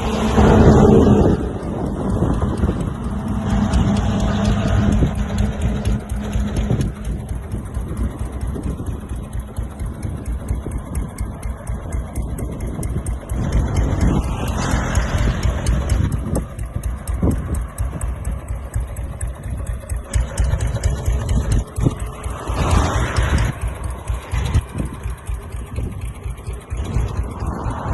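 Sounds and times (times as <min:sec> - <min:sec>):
single-cylinder engine idling: 0:00.0 - 0:27.9.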